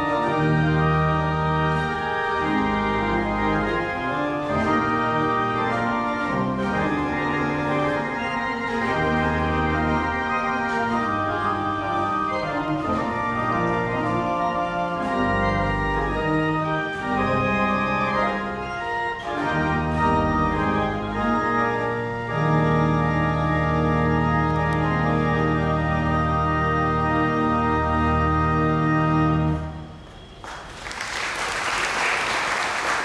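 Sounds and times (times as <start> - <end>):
pipe organ playing chords: 0.0 - 30.4.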